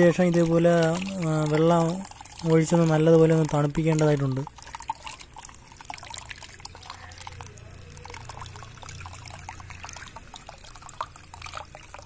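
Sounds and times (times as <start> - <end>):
water trickling through strainer: 0.0 - 12.0.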